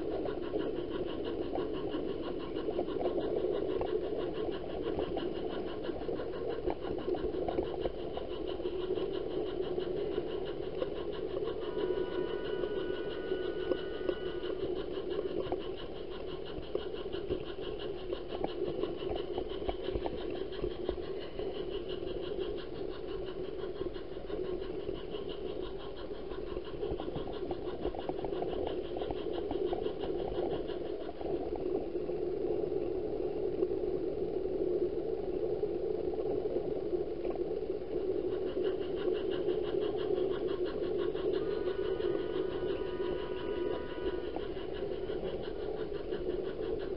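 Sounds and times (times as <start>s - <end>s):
model train motor humming: 0.0s - 31.2s, 38.3s - 46.9s.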